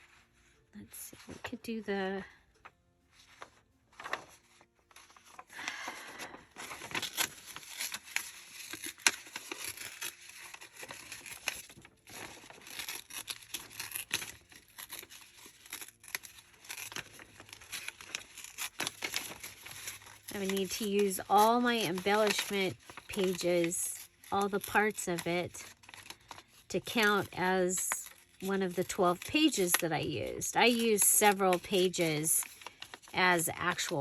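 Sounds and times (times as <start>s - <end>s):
paper rustling and crinkling: 3.1s - 34.0s.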